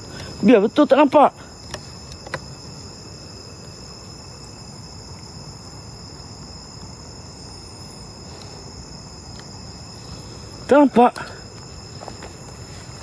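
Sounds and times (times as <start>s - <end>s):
crickets and insects trilling: 0.0s - 13.0s
low background hiss: 0.0s - 13.0s.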